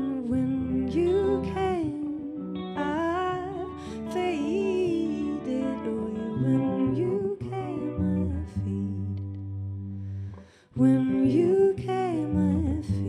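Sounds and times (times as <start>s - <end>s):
person singing: 0.0s - 9.6s, 10.5s - 13.0s
guitar: 0.0s - 13.0s.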